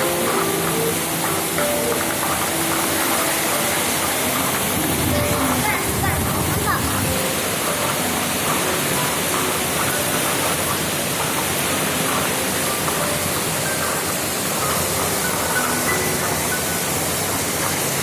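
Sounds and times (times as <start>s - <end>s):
heavy rain in strong wind: 0.0s - 18.0s.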